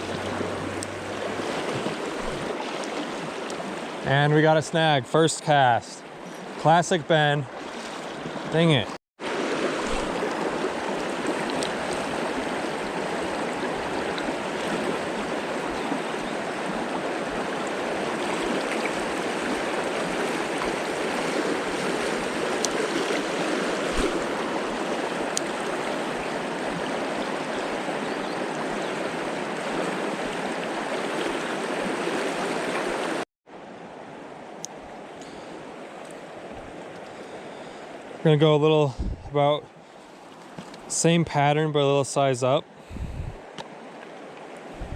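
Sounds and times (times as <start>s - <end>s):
river water rushing: 0.0s - 4.1s, 6.0s - 38.2s.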